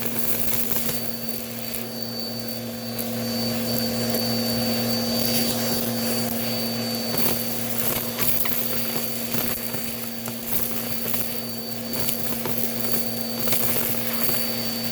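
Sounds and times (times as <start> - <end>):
vacuum cleaner running: 0.0 - 14.9.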